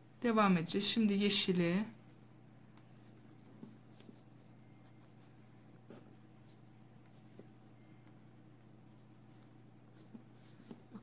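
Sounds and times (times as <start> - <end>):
low steady hum: 0.0 - 11.0
rustling of knitted wool: 1.9 - 11.0.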